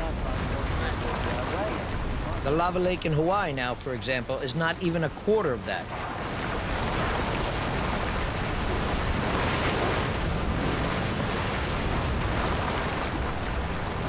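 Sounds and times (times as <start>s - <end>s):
lava lake roaring: 0.0s - 14.0s.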